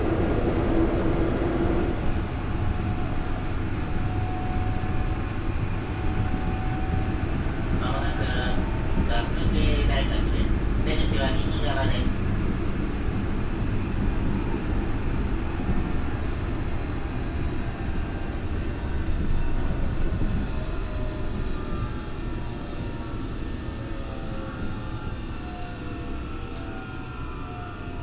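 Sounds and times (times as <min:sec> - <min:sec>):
train wheels rumbling on track: 0:00.0 - 0:27.6.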